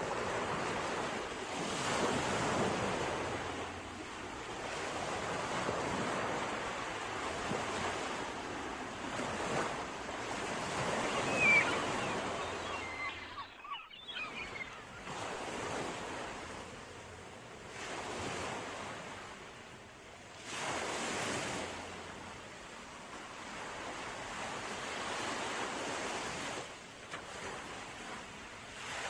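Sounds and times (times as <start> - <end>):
sea waves breaking on shore: 0.0 - 29.0.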